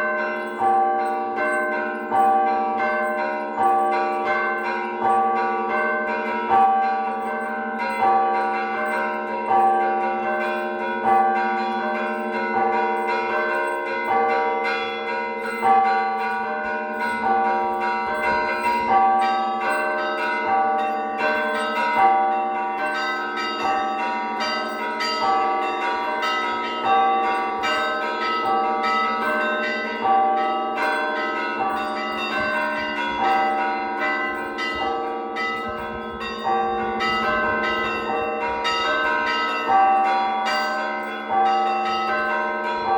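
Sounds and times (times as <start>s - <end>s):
church bells ringing in rhythm: 0.0s - 42.9s.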